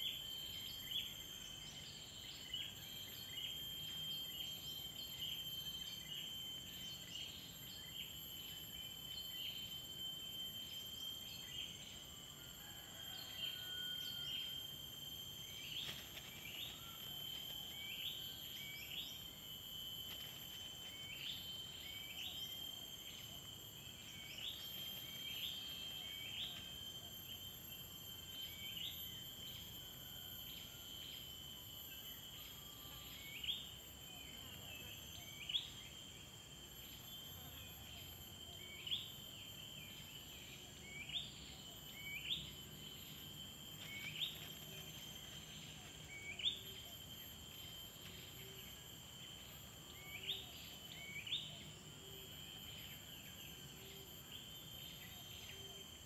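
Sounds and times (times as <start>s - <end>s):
insect trilling: 0.0s - 56.0s.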